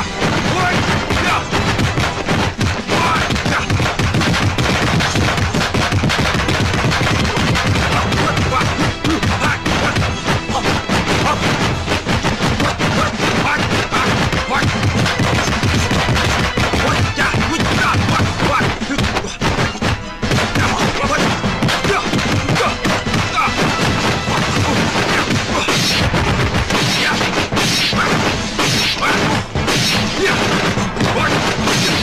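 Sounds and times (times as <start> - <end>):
film music: 0.0 - 32.0
punch sound effects: 0.0 - 32.0.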